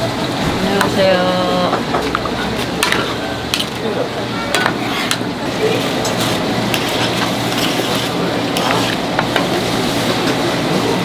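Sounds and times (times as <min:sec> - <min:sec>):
utensils clinking on steel pans: 0:00.8 - 0:10.4.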